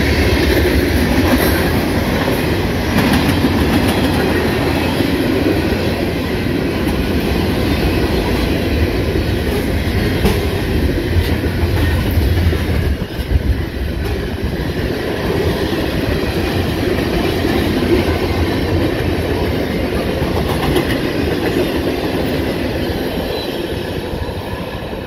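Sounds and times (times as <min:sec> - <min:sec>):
sharp clicks of train wheels: 0:00.0 - 0:25.0
train wheels rumbling on rails: 0:00.0 - 0:25.0.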